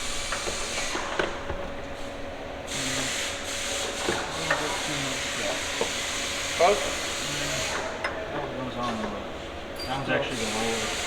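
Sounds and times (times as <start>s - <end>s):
workshop hiss: 0.0s - 8.8s, 10.0s - 11.0s.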